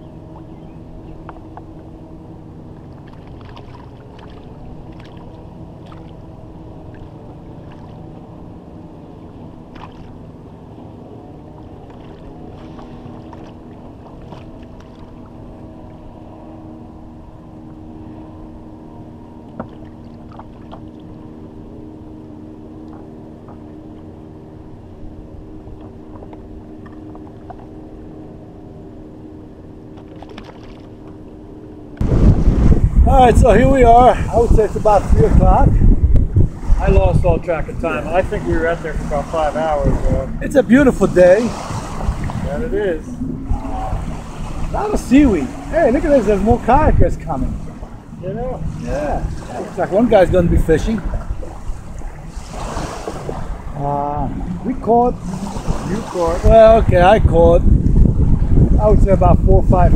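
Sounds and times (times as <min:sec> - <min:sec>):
steady low hum: 0:00.0 - 0:59.9
water lapping against kayak: 0:00.0 - 0:59.9.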